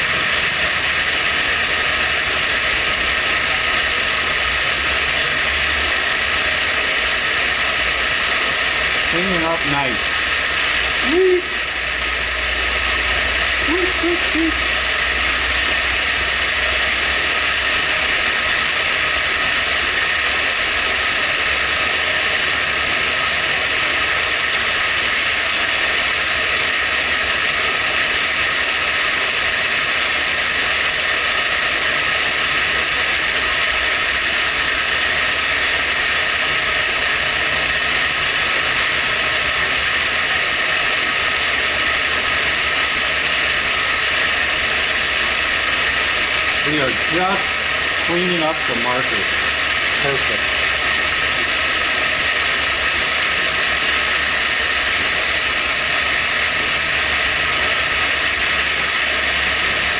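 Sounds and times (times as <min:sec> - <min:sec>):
high steady machining tones: 0:00.0 - 0:59.9
milling machine cutting metal: 0:00.0 - 0:59.9.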